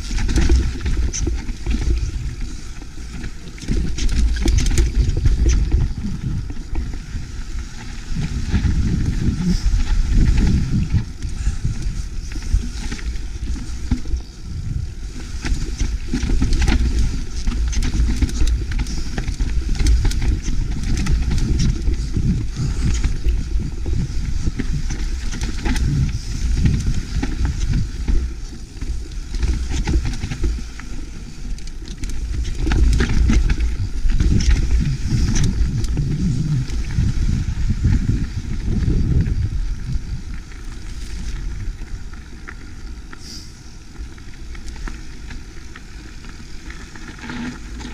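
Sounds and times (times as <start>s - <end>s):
wind buffeting microphone: 0.0s - 42.8s
bike rattling over bumps: 0.0s - 47.9s
bike tyres crunching over gravel: 0.0s - 47.9s.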